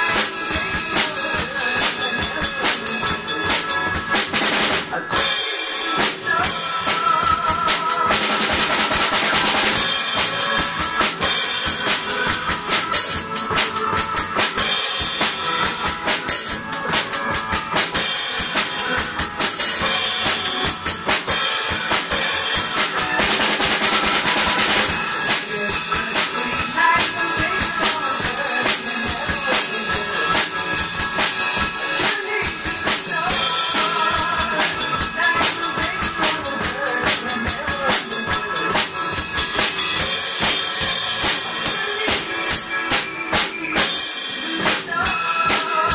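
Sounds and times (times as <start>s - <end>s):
drum kit playing rock beat: 0.0s - 45.9s
recorded song: 0.0s - 45.9s.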